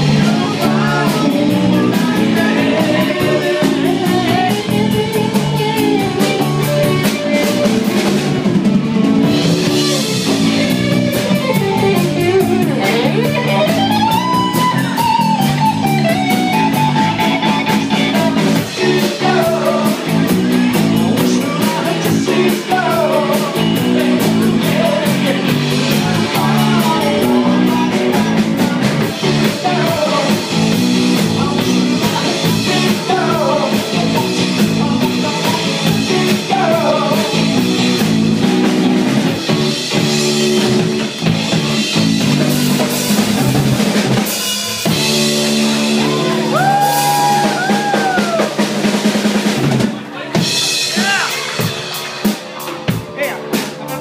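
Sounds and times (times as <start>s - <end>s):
drum kit beat: 0.0s - 54.0s
electric guitars: 0.0s - 54.0s.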